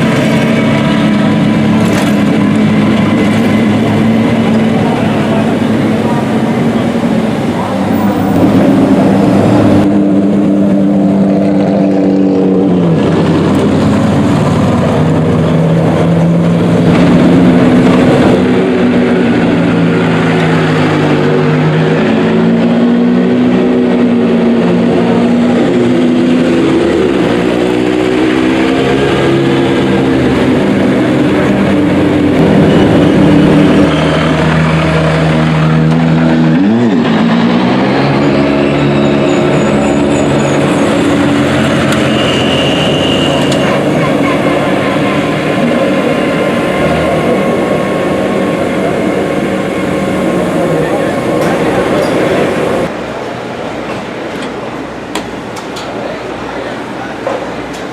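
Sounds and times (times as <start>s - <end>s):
race car engine revving: 0.0s - 53.2s.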